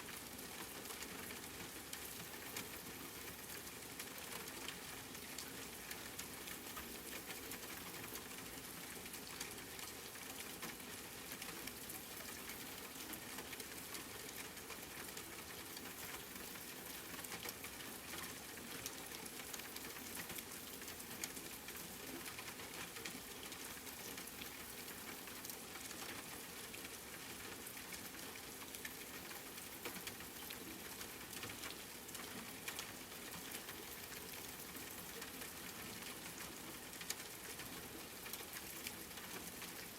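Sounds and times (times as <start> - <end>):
steady rain: 0.0 - 39.9
raindrops ticking: 0.1 - 39.9.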